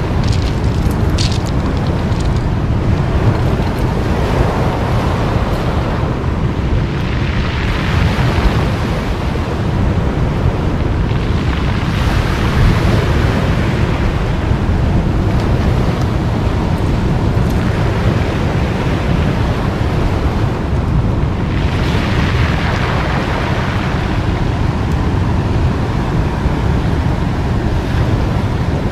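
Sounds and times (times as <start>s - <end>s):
surf washing on pebble beach: 0.0s - 28.9s
wind buffeting microphone: 0.0s - 28.9s.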